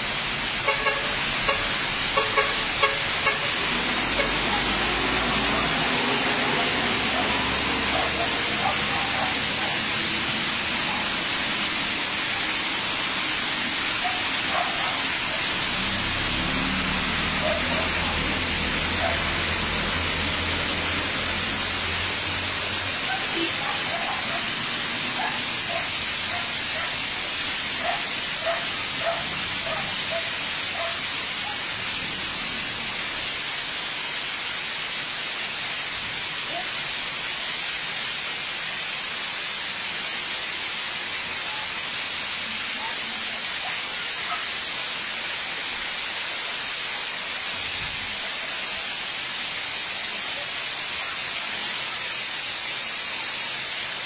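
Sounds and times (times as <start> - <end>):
ash and rain falling on roofs: 0.0 - 54.0.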